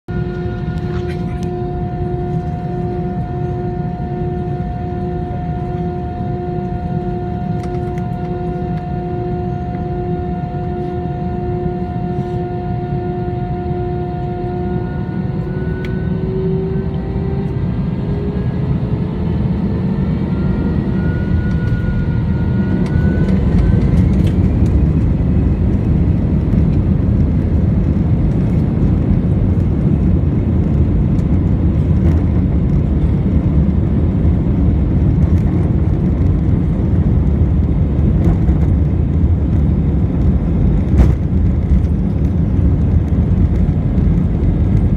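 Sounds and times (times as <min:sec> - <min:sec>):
jet engines spooling up: 0:00.2 - 0:44.9.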